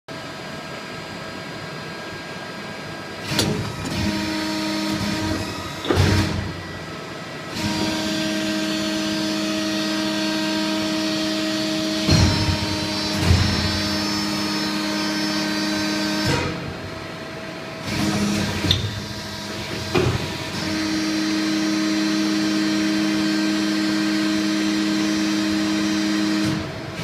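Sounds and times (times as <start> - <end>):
tube-bending machine humming: 1.0 - 27.0.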